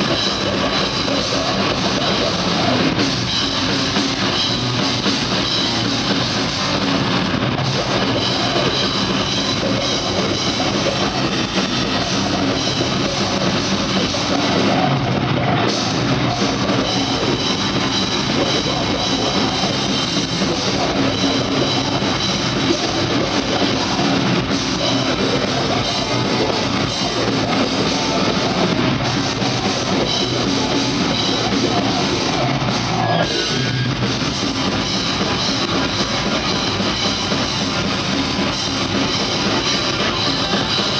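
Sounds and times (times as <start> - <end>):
distorted electric guitar: 0.0 - 40.9
drum kit: 0.0 - 40.9.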